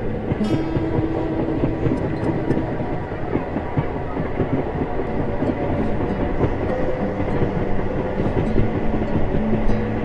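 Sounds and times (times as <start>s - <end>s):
train rumbling: 0.0s - 10.0s
wheels clacking over rail joints: 0.0s - 10.0s.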